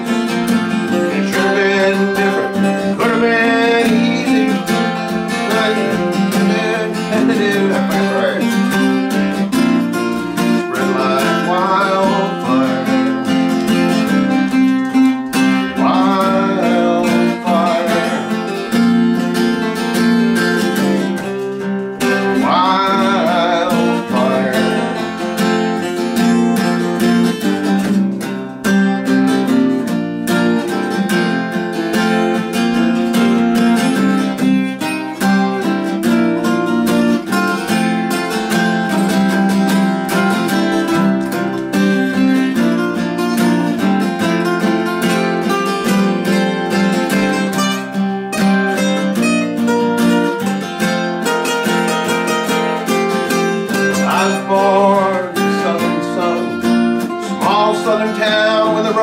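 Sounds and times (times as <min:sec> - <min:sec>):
acoustic guitars strumming: 0:00.0 - 0:59.0
wavering guitar lead line: 0:00.0 - 0:59.0.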